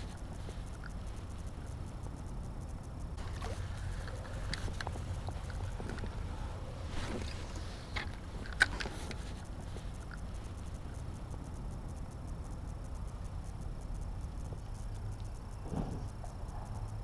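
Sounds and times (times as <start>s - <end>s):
handling clicks: 0.0s - 15.4s.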